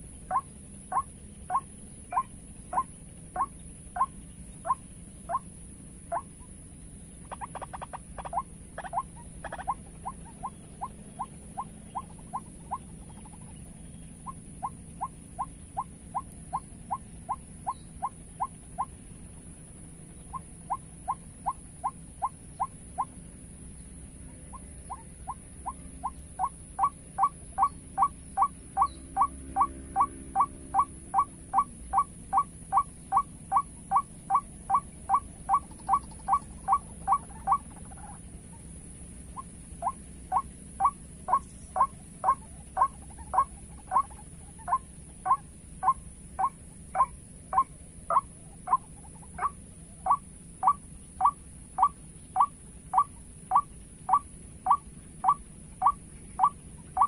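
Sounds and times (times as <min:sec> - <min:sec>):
waterhen calling: 0:00.0 - 0:05.5, 0:06.1 - 0:06.4, 0:07.2 - 0:19.0, 0:20.2 - 0:23.2, 0:24.3 - 0:57.0.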